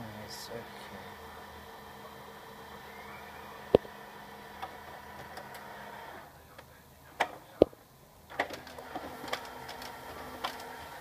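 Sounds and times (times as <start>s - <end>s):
laser printer humming: 0.0s - 11.0s.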